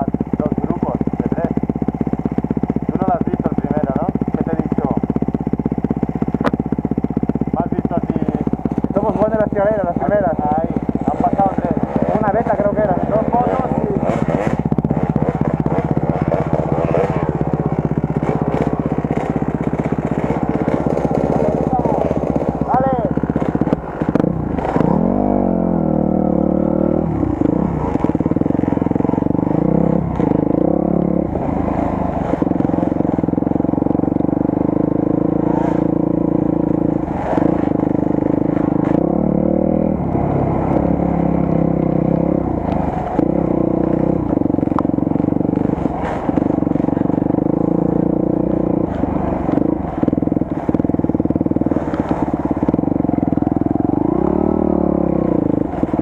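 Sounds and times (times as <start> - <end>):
motorcycle engine running: 0.0 - 56.0
motorcycle knocks and clatter: 0.0 - 56.0.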